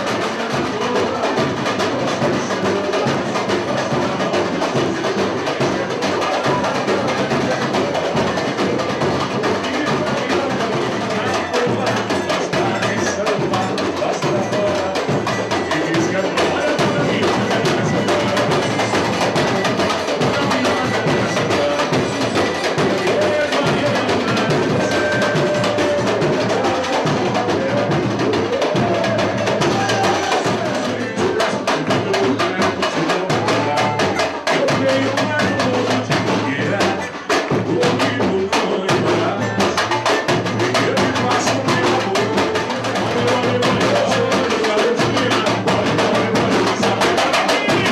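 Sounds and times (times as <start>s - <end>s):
fast dense drumming: 0.0s - 47.9s
samba music with live percussion: 0.0s - 47.9s.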